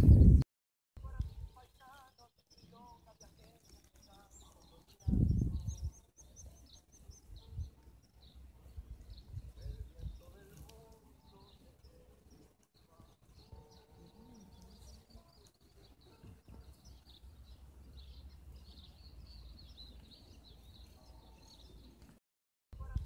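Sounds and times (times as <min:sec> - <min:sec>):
bird chirps: 0:01.0 - 0:22.2.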